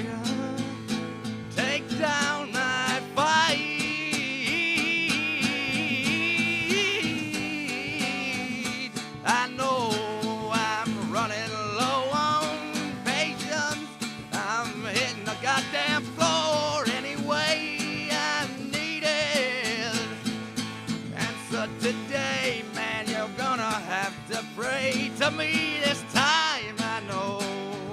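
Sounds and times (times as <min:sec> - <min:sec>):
plucked guitar rhythm: 0:00.0 - 0:27.9
sliding melody line: 0:01.8 - 0:27.3.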